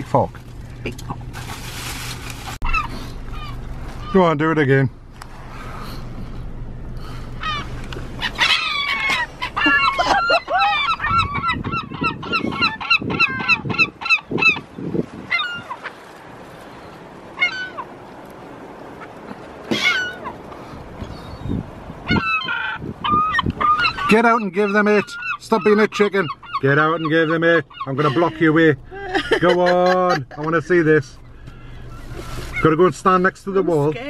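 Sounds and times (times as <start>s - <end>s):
seagulls squawking: 2.6s - 4.4s, 5.6s - 33.9s.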